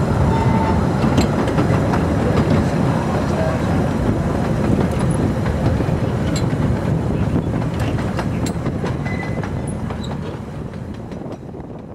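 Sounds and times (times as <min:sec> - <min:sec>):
miniature train rumbling: 0:00.0 - 0:11.9
wheels clicking on track: 0:00.5 - 0:11.9.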